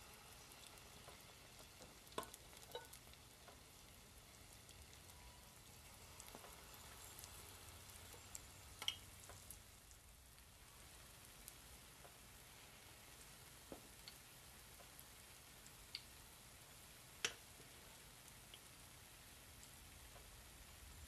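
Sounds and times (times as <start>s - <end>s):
fritters sizzling in oil: 0.0s - 21.0s.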